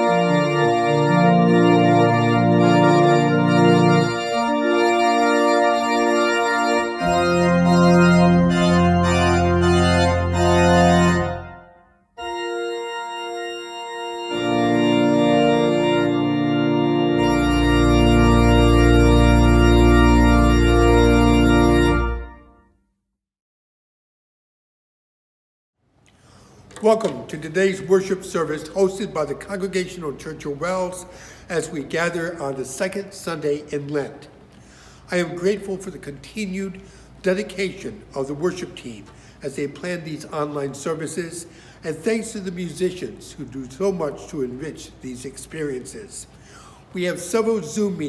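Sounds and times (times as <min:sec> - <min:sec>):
church organ chords: 0:00.0 - 0:22.8, 0:26.7 - 0:48.0.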